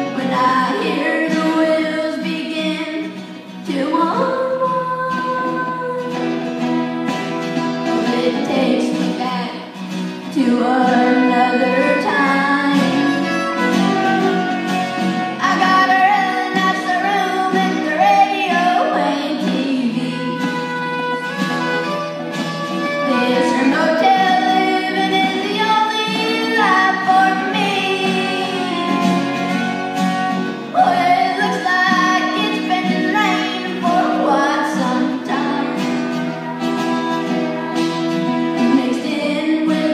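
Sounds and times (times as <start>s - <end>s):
boy singing: 0.0s - 6.5s, 8.0s - 9.6s, 10.3s - 20.8s, 22.9s - 36.2s, 38.5s - 39.9s
fiddle: 0.0s - 39.9s
strummed acoustic guitars: 0.0s - 39.9s.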